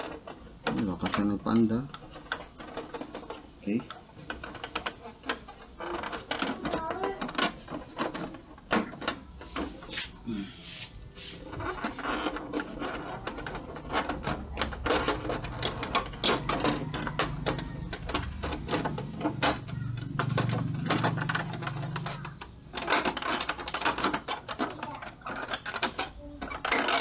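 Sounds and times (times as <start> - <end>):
plastic parts clicking and rattling: 0.0 - 9.9, 11.5 - 27.0.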